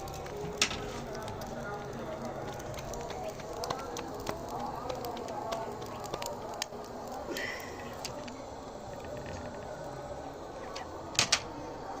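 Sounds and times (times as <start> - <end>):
egg sizzling in oil: 0.0 - 10.8.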